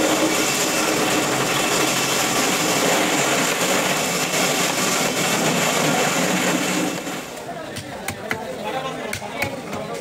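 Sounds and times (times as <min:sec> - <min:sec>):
loud steady mechanical noise: 0:00.0 - 0:10.0.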